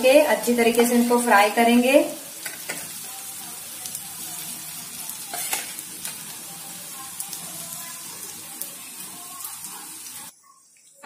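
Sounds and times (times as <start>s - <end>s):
deep-frying sizzle with crackles: 0.0s - 11.0s.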